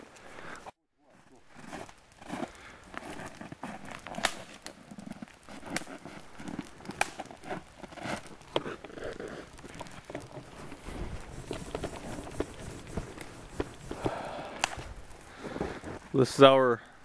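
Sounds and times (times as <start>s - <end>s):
footsteps crunching in snow: 1.1s - 16.3s.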